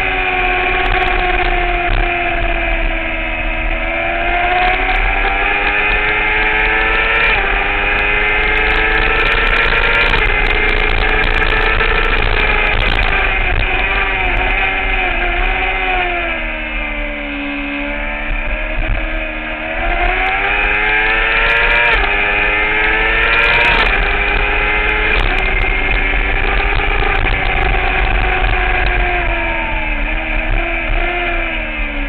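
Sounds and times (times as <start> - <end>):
motorcycle engine revving: 0.0 - 32.0
rushing wind: 0.0 - 32.0.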